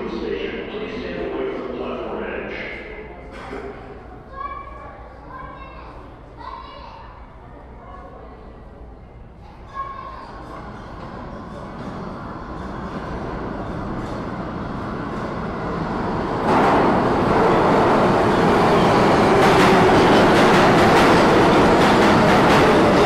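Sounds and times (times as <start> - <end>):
subway train arriving: 0.0 - 23.0.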